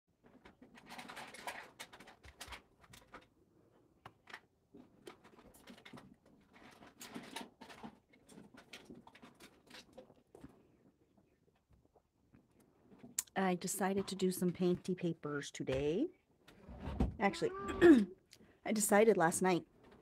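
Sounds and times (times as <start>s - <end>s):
soft rustling of papers: 0.2s - 17.0s.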